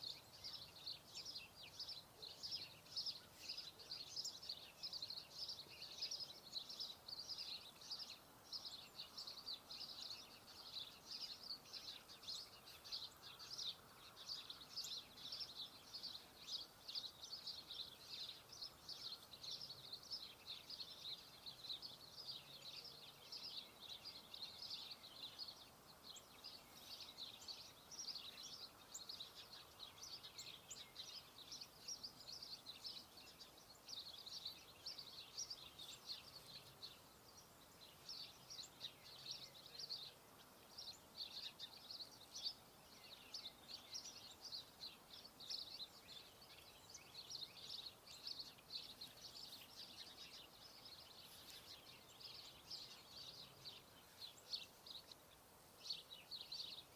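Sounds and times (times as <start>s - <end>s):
small birds chirping and singing: 0.0s - 56.9s.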